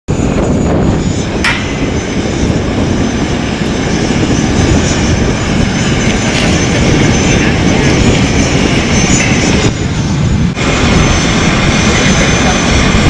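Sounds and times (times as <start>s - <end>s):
jet engines rumbling: 0.1s - 13.0s.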